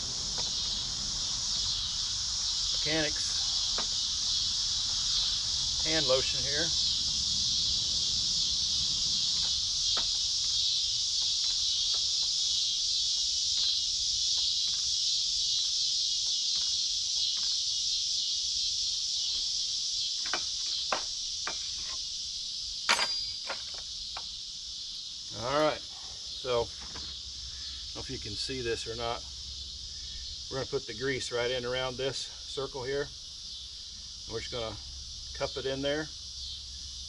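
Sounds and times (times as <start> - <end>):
insects chorus: 0.0 - 37.0.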